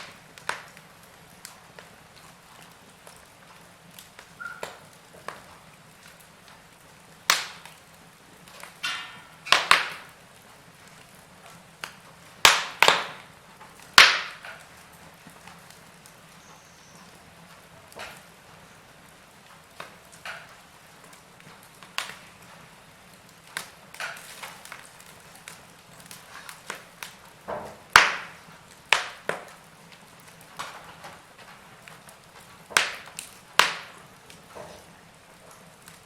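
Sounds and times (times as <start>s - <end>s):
faint fire hiss: 0.0s - 36.0s
wood fire crackling: 0.0s - 36.0s.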